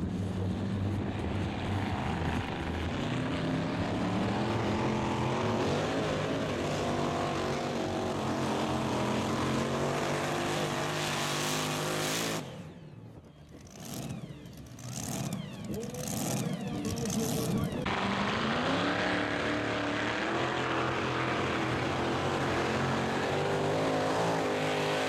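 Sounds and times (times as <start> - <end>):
pulling tractor engine at full throttle: 0.0 - 25.0.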